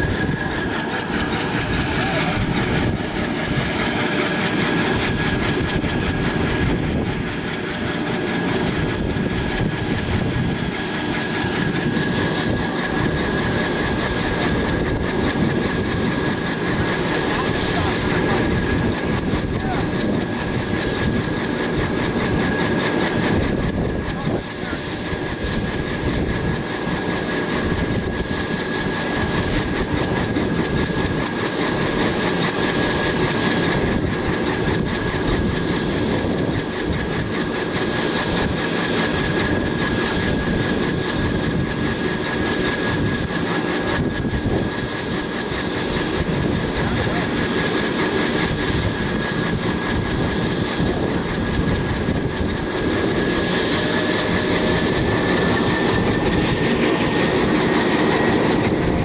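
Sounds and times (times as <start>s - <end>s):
helicopter engine rumble: 0.0s - 59.0s
high rotor whine: 0.0s - 59.0s.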